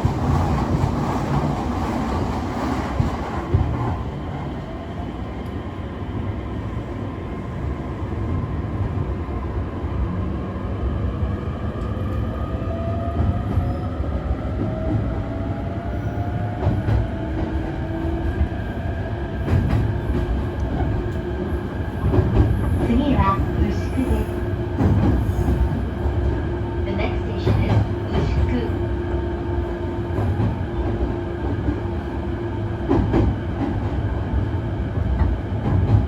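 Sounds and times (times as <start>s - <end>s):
wheels rumbling on rail: 0.0s - 4.9s, 11.7s - 36.0s.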